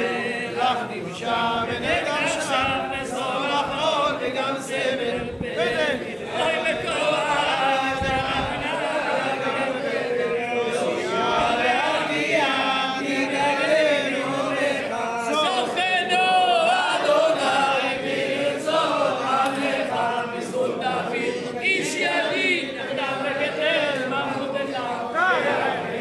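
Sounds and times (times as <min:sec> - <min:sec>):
men chanting prayers together: 0:00.0 - 0:26.0.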